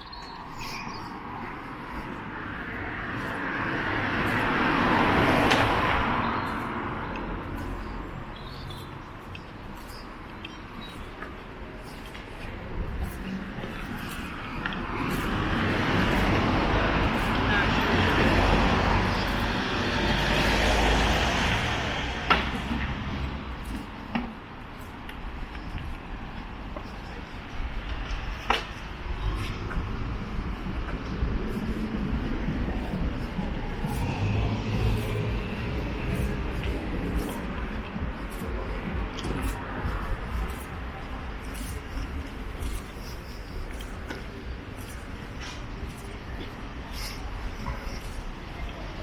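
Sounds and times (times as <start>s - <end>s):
road vehicle passing: 0.2s - 49.0s.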